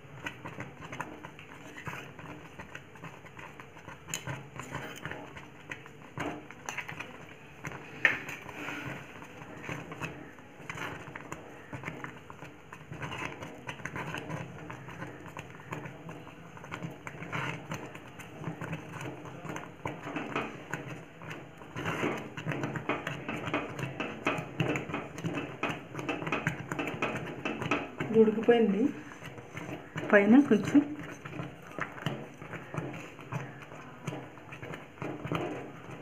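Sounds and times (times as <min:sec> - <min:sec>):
wooden spatula scraping metal pot: 0:00.0 - 0:36.0.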